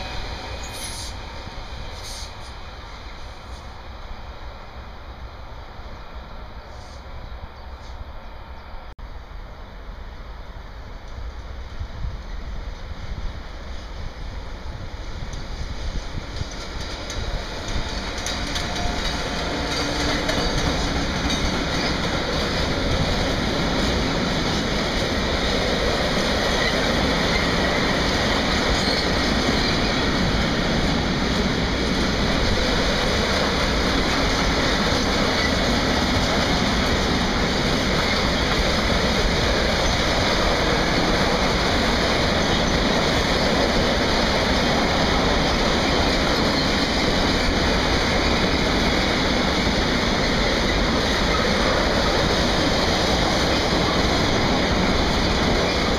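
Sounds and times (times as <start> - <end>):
freight train wheels on rail: 0.0 - 55.9.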